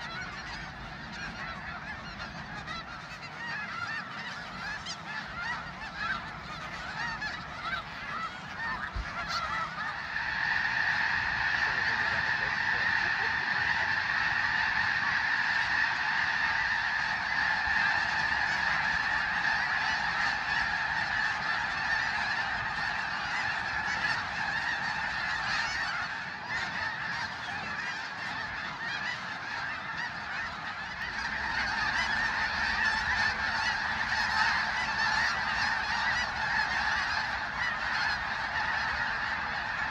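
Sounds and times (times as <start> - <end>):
flock of geese honking: 0.0 - 39.9.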